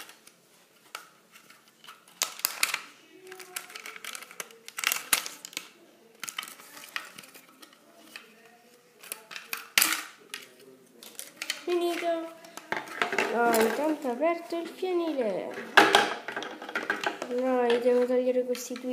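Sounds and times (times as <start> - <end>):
plastic toy packaging clicks and crinkles: 0.0 - 18.9.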